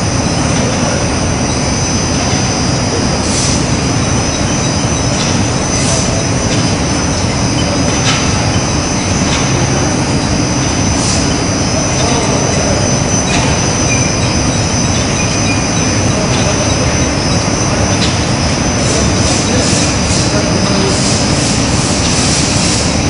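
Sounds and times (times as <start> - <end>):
high machine whine: 0.0 - 23.0
machinery roaring: 0.0 - 23.0.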